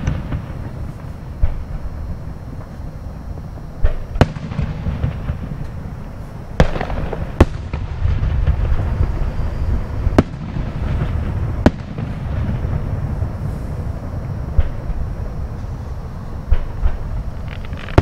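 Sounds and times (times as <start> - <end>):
distant fireworks bangs: 0.0 - 18.0
steady low rumble: 0.0 - 18.0.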